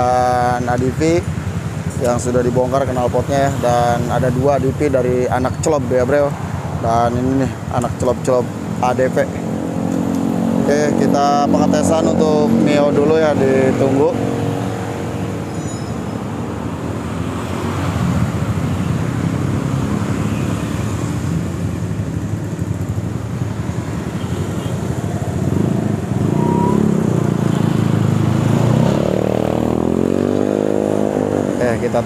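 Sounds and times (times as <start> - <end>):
motorbike engines running: 0.0 - 32.0
street traffic: 0.0 - 32.0.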